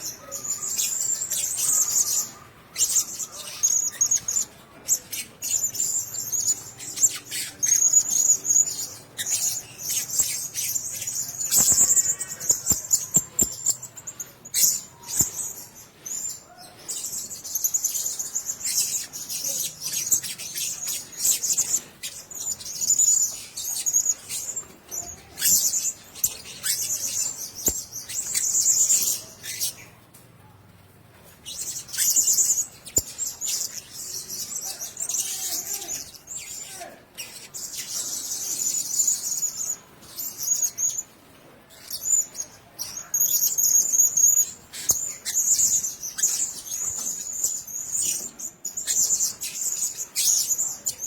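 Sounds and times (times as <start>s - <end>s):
parrots chirping squeaky calls: 0.0s - 30.0s, 31.3s - 51.0s.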